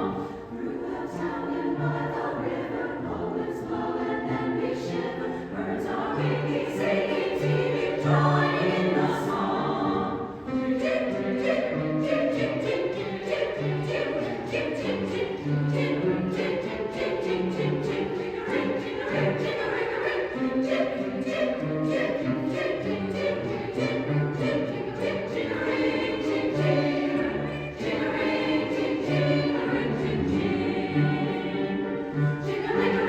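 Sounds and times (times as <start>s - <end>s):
choir singing with instruments: 0.0s - 33.0s.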